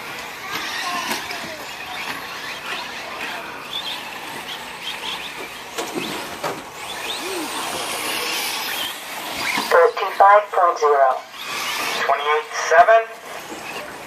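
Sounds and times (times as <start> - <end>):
rc truck motors whining: 0.0 - 14.0.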